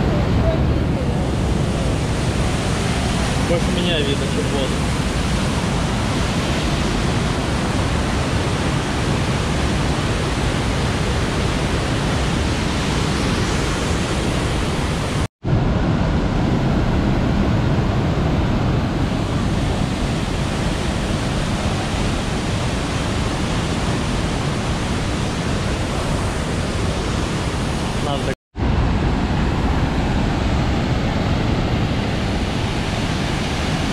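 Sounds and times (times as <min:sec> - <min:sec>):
waterfall rushing: 0:00.0 - 0:15.3, 0:19.0 - 0:33.9.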